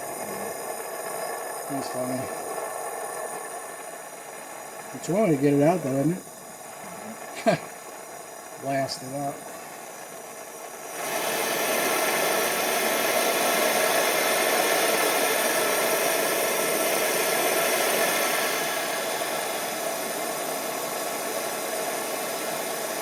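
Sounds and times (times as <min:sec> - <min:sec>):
gas torch flame hissing: 0:00.0 - 0:23.0.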